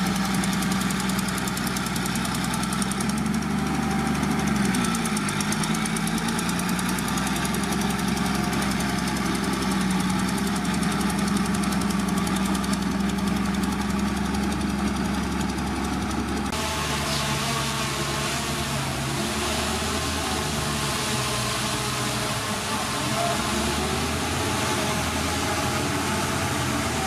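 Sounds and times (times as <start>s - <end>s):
large diesel engine clattering: 0.0s - 27.0s.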